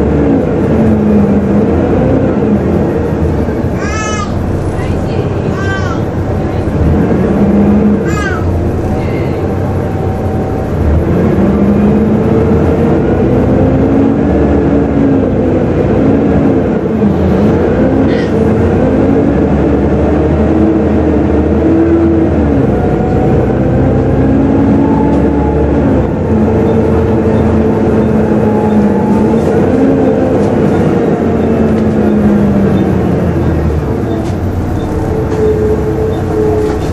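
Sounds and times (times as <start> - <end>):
bus engine whining: 0.0 - 36.9.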